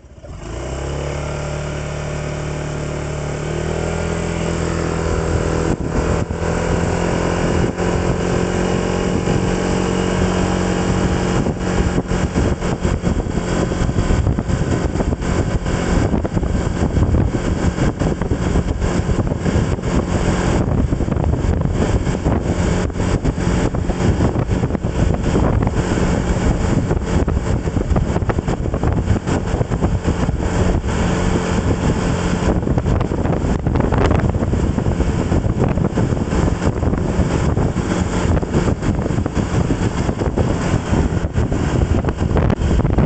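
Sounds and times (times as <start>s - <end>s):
vehicle engine rumble: 0.0s - 43.0s
wind rush on microphone: 0.0s - 43.0s.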